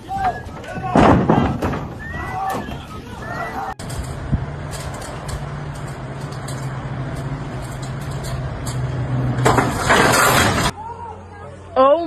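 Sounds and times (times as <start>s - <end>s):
background noise: 0.0s - 12.0s.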